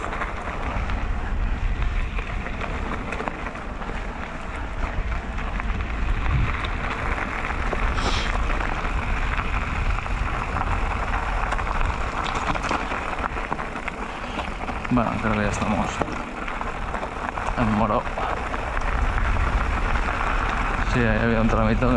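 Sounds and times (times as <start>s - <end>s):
bike tyres crunching on gravel: 0.0s - 21.9s
wind rumbling on microphone: 0.0s - 21.9s.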